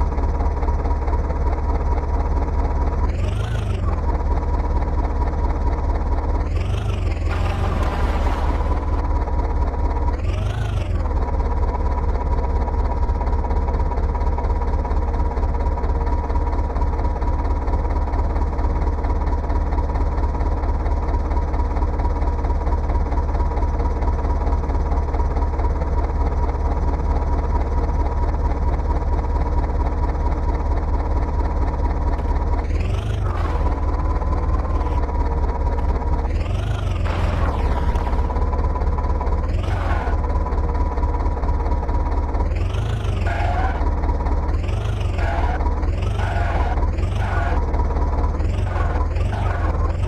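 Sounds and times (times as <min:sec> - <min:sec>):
diesel tractor engine running: 0:00.0 - 0:50.0.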